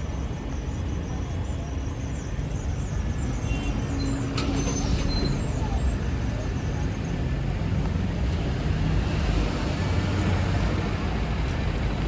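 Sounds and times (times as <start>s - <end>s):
road traffic engine rumble: 0.0s - 12.0s.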